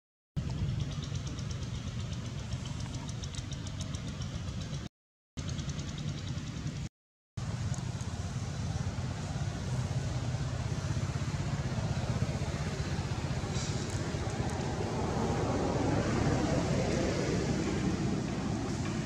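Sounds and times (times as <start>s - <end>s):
low outdoor rumble: 0.4s - 19.0s.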